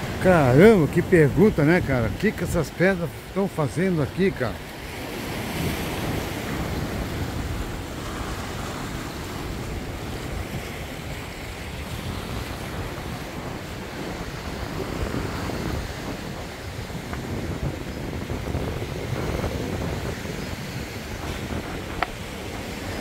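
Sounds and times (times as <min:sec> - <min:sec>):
sea surf on rocky shore: 0:00.0 - 0:23.0
wind buffeting microphone: 0:00.0 - 0:23.0.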